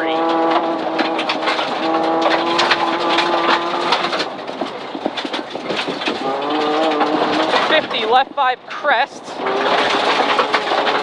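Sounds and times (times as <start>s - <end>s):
car engine at high revs: 0.0s - 11.0s
gravel pinging against car: 0.0s - 11.0s
tyre and road noise: 0.0s - 11.0s.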